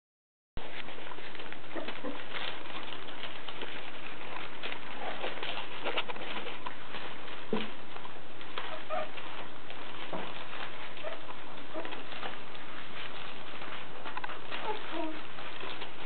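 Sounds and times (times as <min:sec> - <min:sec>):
newspaper rustling under paws: 0:00.6 - 0:16.0
soft puppy grunts: 0:01.0 - 0:06.6, 0:07.3 - 0:16.0.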